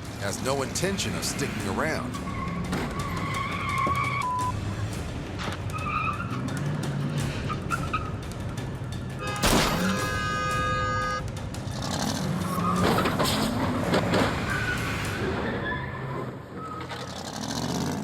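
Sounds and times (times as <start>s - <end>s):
dramatic background music: 0.0s - 16.1s
car engine: 0.0s - 18.0s.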